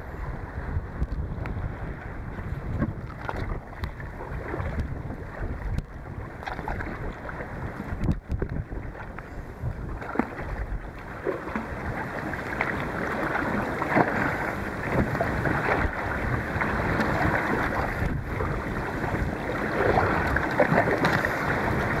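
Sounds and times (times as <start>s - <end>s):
waves splashing against kayak: 0.0s - 22.0s
wind buffeting the microphone: 0.0s - 22.0s
paddle strokes: 0.2s - 22.0s.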